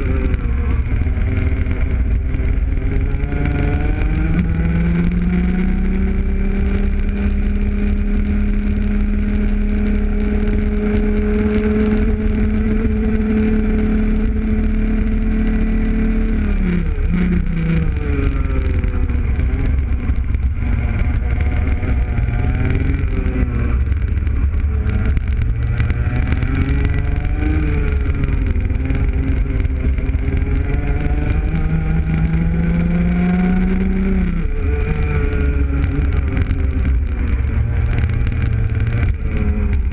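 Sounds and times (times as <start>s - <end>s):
two-stroke kart engine revving: 0.0s - 39.9s.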